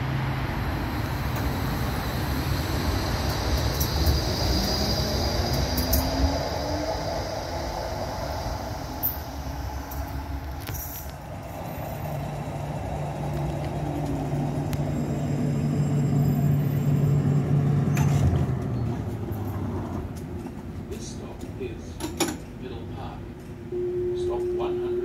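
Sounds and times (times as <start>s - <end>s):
tram brakes whining: 0.0s - 20.3s
tram motor hum: 0.0s - 25.0s.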